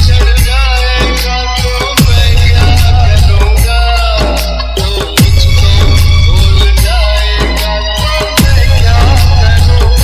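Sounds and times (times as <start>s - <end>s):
loud remix music with heavy bass: 0.0s - 10.0s.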